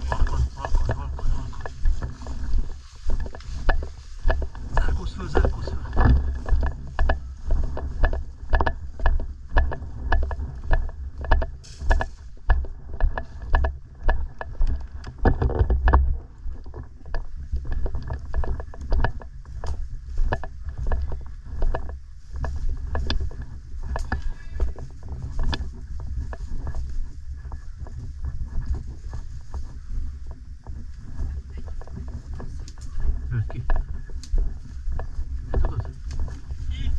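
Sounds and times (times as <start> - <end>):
footsteps walking: 0.0 - 36.9
gear rubbing against camera: 0.0 - 36.9.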